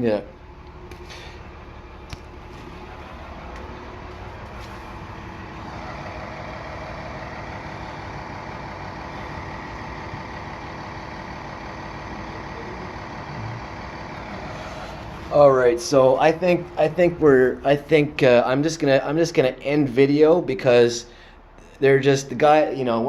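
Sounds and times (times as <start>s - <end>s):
fire truck engine idling: 0.0s - 22.5s.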